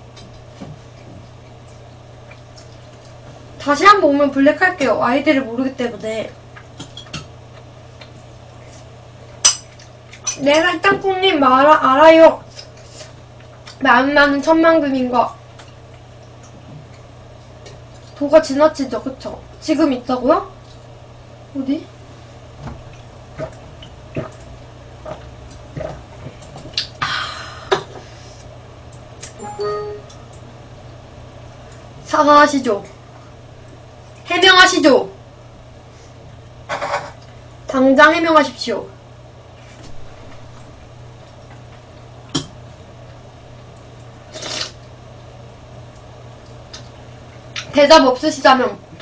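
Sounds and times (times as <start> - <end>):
low electrical hum: 0.0 - 49.0.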